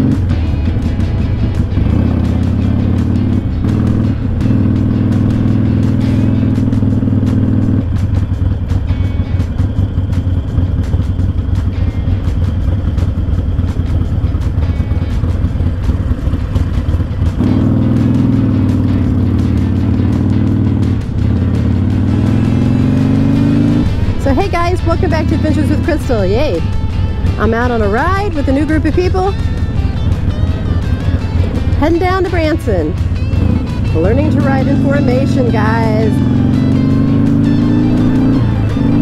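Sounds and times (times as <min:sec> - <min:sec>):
motorcycle engine idling: 0:00.0 - 0:39.0
motorcycle engine running: 0:00.0 - 0:39.0.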